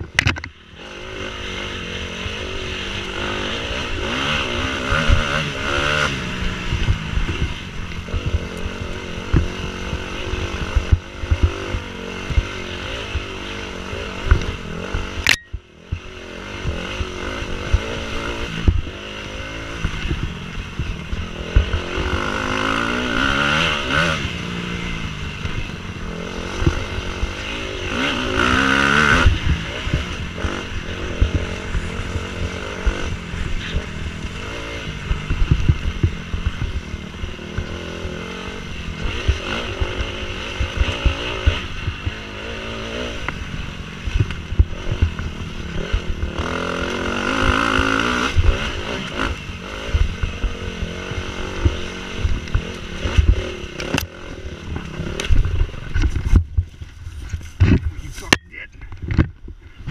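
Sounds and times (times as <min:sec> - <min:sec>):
dirt bike engine revving: 0:00.0 - 0:56.6.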